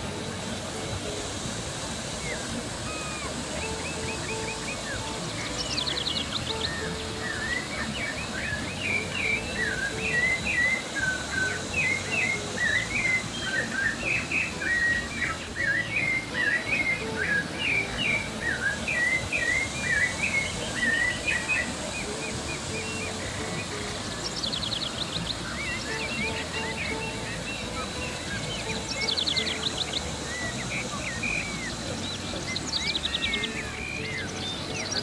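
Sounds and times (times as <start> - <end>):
birds chirping: 0.0 - 35.0
small waterfall rushing: 0.0 - 35.0.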